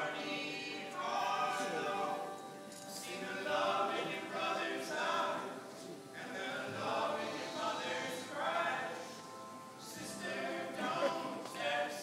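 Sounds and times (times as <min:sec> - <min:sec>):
male voices singing in harmony: 0:00.0 - 0:12.0.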